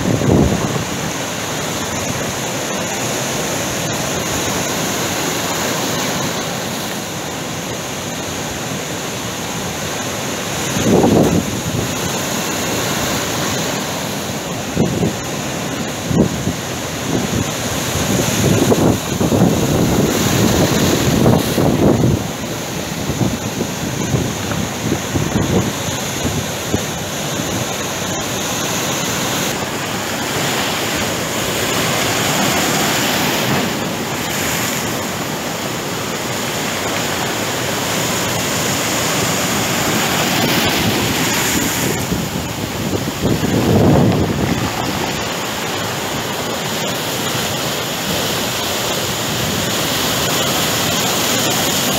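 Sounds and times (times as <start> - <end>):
sea waves breaking ashore: 0.0 - 51.9.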